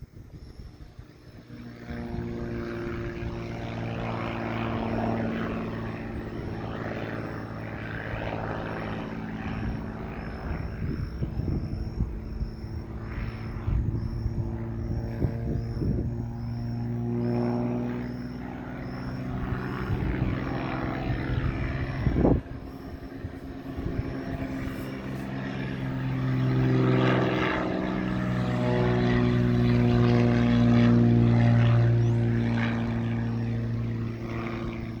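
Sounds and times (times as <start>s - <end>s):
propeller airplane engine droning: 0.0s - 35.0s.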